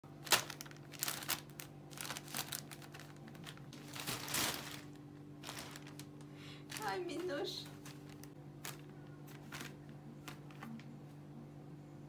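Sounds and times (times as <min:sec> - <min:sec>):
faint steady hum: 0:00.0 - 0:12.0
plastic bags crinkling: 0:00.1 - 0:10.9.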